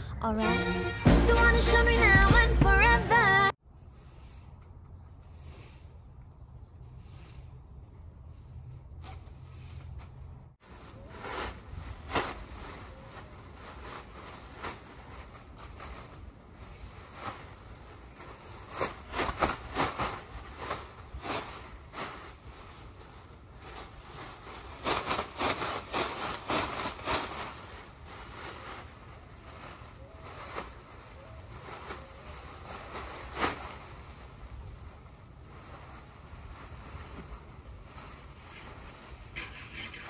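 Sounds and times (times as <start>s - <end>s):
plastic bag rustling and crackling: 6.9s - 40.0s.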